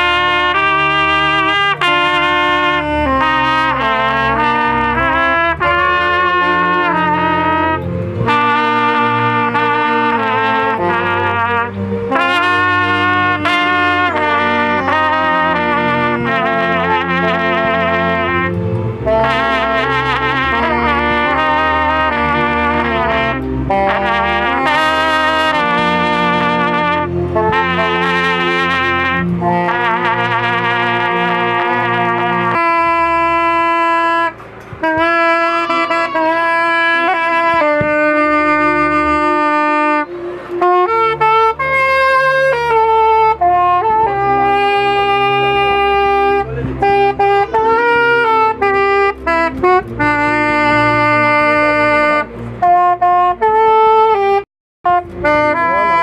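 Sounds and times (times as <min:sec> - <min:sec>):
instrumental music with held notes: 0:00.0 - 0:56.0.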